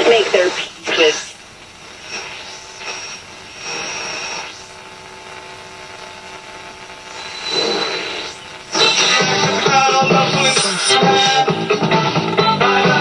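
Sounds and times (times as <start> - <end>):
music from radio loudspeaker: 0.0 - 4.8, 5.5 - 13.0
radio hiss with faint tones: 0.0 - 13.0.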